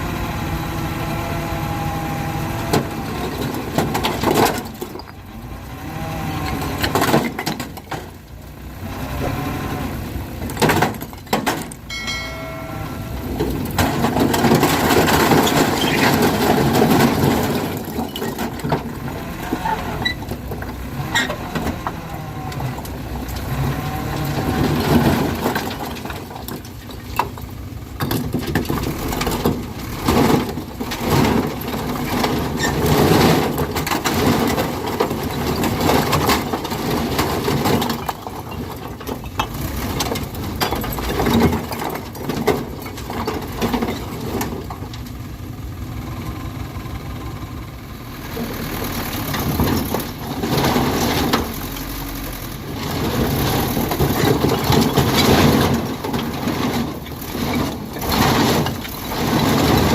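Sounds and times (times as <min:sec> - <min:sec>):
dump truck engine running: 0:00.0 - 0:59.9.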